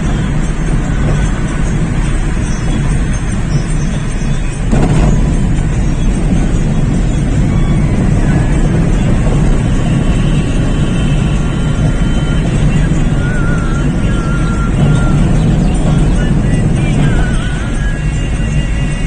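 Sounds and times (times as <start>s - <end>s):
vehicle rumble from inside: 0.0s - 19.0s.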